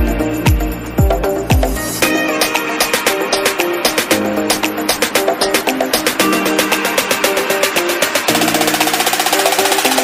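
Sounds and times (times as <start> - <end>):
background music with quick beat: 0.0 - 10.0.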